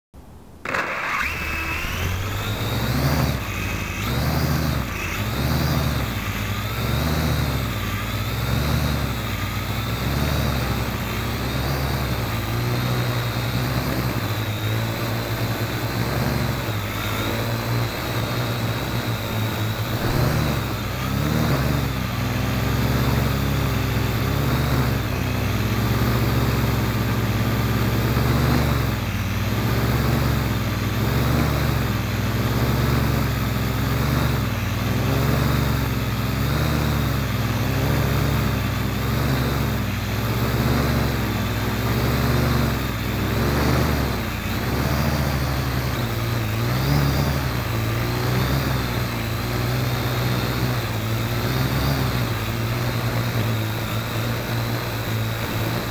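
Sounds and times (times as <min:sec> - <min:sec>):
drone propellers whirring: 0:00.3 - 0:55.9.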